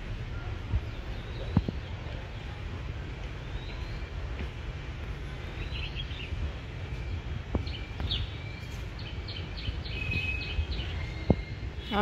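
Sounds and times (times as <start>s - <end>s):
low rumble of city noise: 0.0s - 12.0s
small birds chirping: 0.2s - 12.0s.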